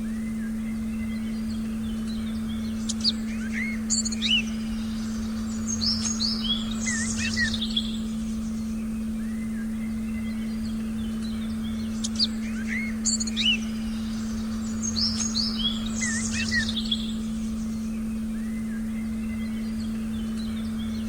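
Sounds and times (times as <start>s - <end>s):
birds chirping and whistling: 0.0s - 21.0s
steady low pure tone: 0.0s - 21.0s.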